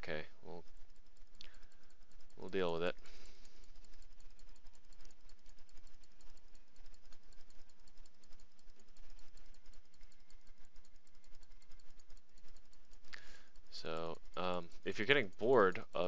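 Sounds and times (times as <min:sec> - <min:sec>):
computer mouse clicking: 0:00.0 - 0:16.0
low steady hum: 0:00.0 - 0:16.0.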